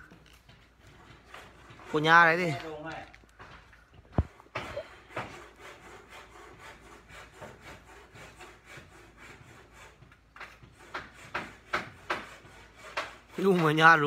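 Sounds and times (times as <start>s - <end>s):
wood scraping on wood: 0.0s - 14.0s.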